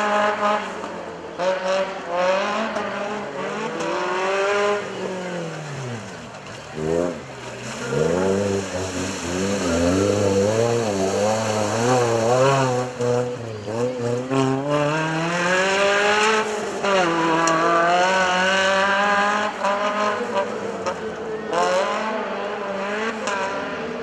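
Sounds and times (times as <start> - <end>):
race vehicle engine revving: 0.0 - 24.0.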